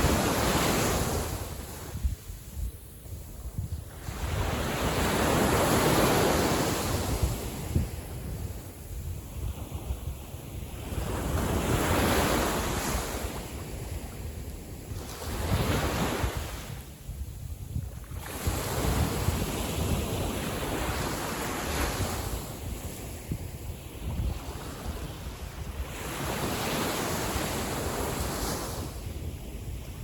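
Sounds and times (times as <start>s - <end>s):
calm sea waves washing: 0.0s - 30.0s
wind buffeting microphone: 0.0s - 30.0s.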